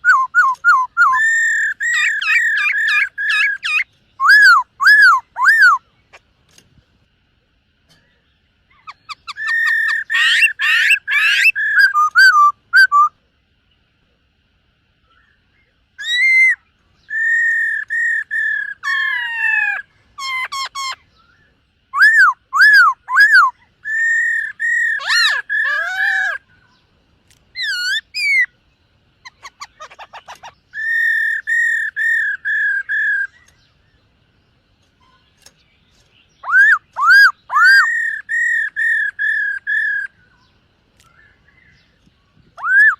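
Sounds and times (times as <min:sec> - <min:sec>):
bird singing whistled notes: 0:00.0 - 0:06.2, 0:07.9 - 0:13.2, 0:15.0 - 0:26.9, 0:27.5 - 0:42.9.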